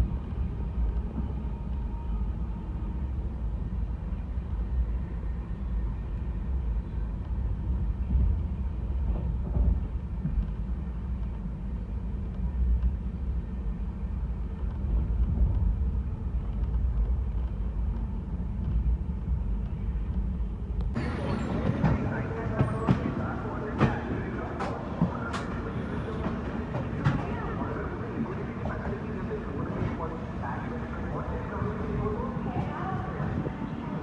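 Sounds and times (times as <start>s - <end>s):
train running rumble: 0.0s - 34.0s.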